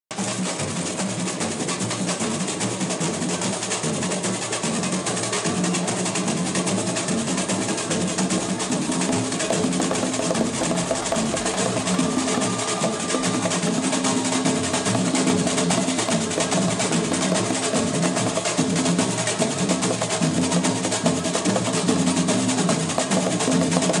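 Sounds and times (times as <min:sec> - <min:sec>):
samba drumming: 0:00.1 - 0:24.0.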